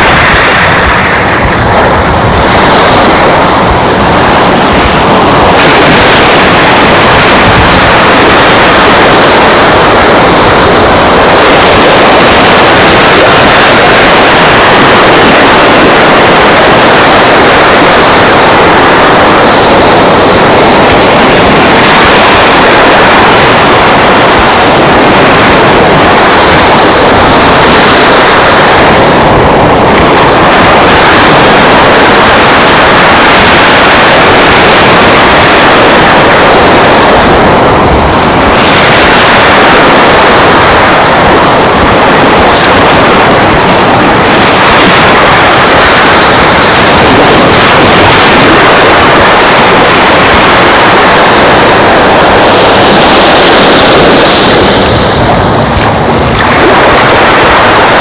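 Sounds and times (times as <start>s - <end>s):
surf on beach: 0.0s - 58.0s
wind rushing: 0.0s - 58.0s.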